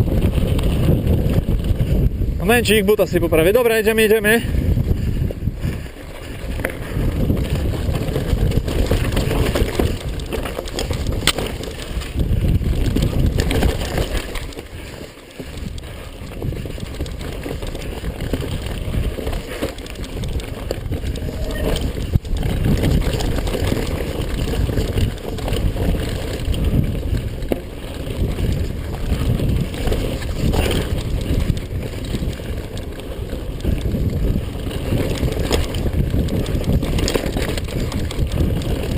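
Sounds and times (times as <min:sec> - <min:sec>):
bike clattering over bumps: 0:00.0 - 0:02.6, 0:03.5 - 0:38.9
bike tyres rolling on dirt: 0:00.0 - 0:38.9.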